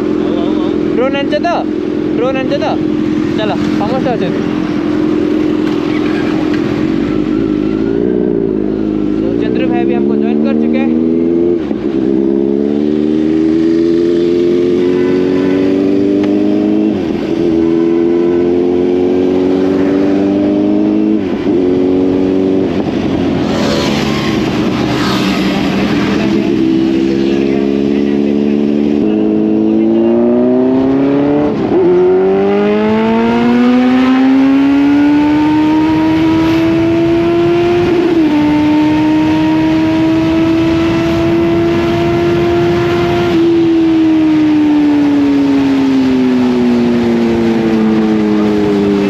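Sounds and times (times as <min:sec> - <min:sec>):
motorcycle engine accelerating: 0:00.0 - 0:49.0
rushing wind noise: 0:00.0 - 0:49.0.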